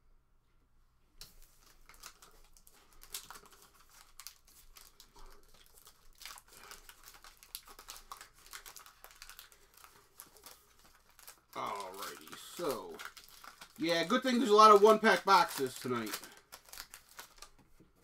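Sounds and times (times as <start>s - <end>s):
foil packs crinkling and tearing: 1.2s - 17.6s.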